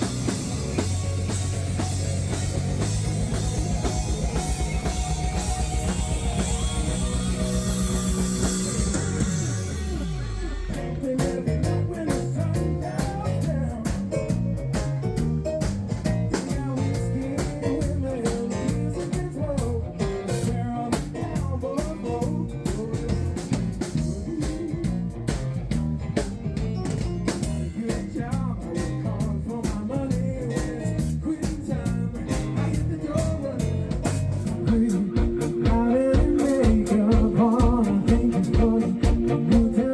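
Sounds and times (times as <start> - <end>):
busy drum beat: 0.0 - 39.9
rock band playing: 0.0 - 39.9
person singing: 3.9 - 14.7, 16.2 - 25.4, 27.6 - 39.9.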